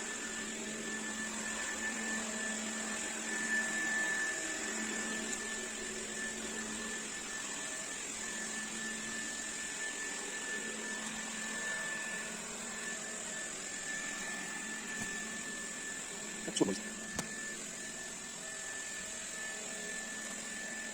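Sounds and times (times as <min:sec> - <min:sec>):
robot vacuum cleaner whirring: 0:00.0 - 0:20.9.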